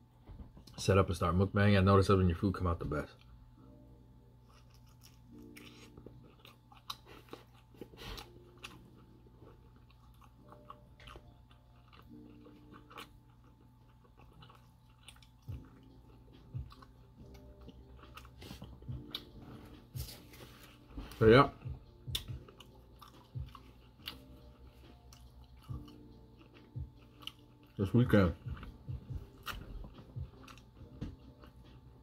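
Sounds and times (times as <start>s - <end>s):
faint steady hum: 0.0s - 32.0s
person chewing food: 4.4s - 32.0s.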